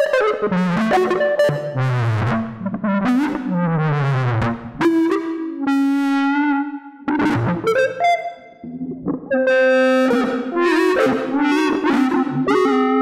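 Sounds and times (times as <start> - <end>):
processed electric guitar: 0.0 - 13.0.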